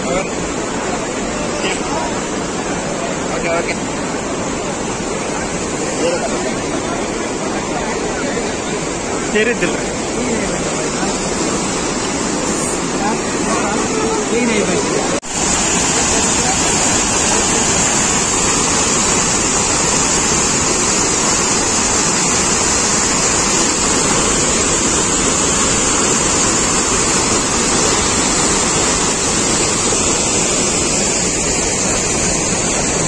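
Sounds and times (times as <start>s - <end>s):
water roaring over a weir: 0.0s - 33.0s.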